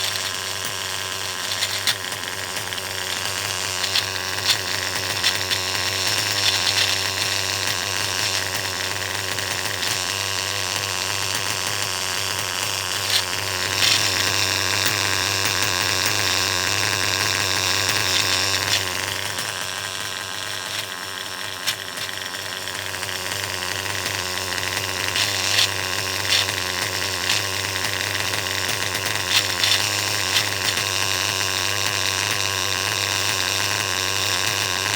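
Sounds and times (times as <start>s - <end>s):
engine running: 0.0s - 34.9s
sharp irregular clicks in engine: 0.0s - 34.9s.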